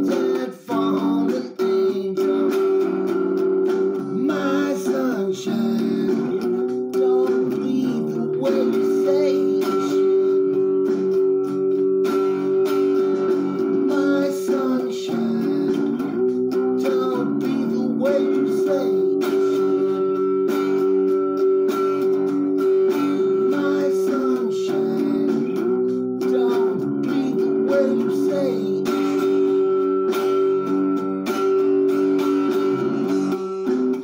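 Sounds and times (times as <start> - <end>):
guitar strumming chords: 0.0 - 34.0.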